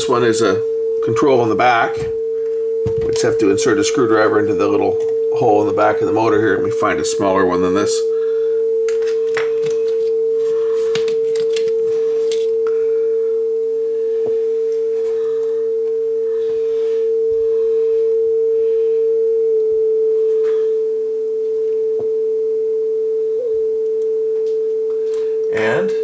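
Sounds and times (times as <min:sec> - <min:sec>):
steady test tone from cassette: 0:00.0 - 0:26.0.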